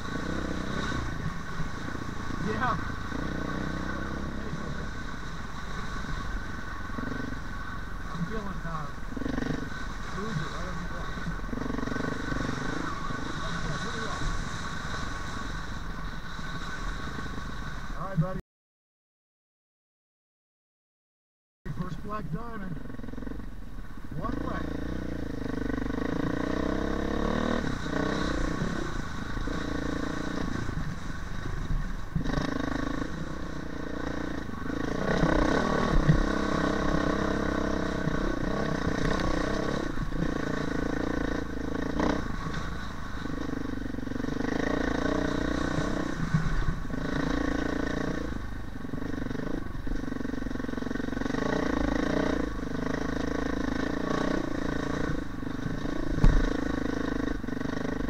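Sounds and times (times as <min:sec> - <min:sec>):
dirt bike engine revving: 0:00.0 - 0:18.2, 0:24.2 - 0:31.2, 0:32.1 - 0:58.0.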